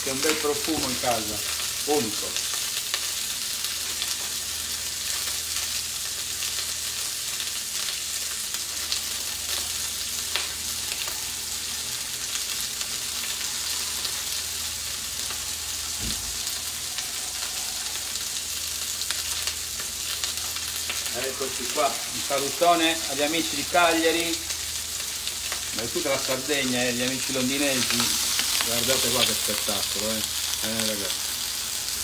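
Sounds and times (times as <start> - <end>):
fish sizzling in hot pans: 0.0 - 32.0.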